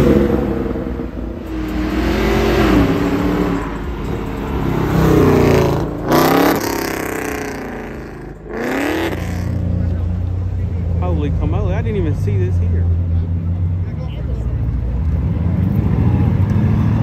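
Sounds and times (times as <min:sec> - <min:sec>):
car engines revving past: 0:00.0 - 0:17.0.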